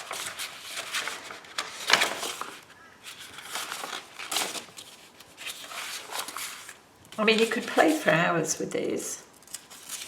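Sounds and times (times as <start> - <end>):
paper sheets rustling: 0.0 - 8.3, 9.5 - 10.0.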